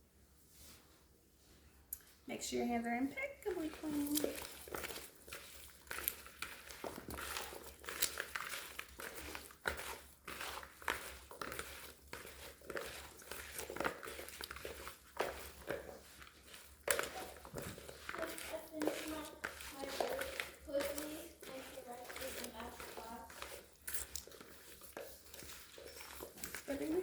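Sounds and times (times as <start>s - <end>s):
hands handling food rustling: 3.1s - 27.0s.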